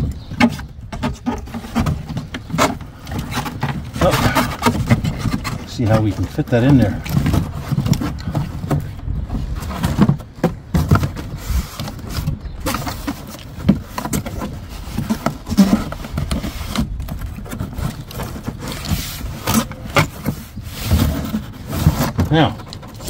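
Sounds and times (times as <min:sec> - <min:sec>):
cardboard scraping and sliding: 0:00.0 - 0:23.0
wood knocking against cardboard box: 0:00.0 - 0:23.0.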